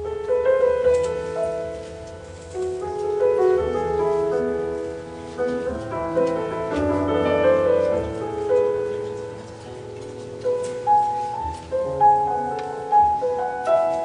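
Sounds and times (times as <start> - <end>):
solo grand piano classical piece: 0.0 - 14.0.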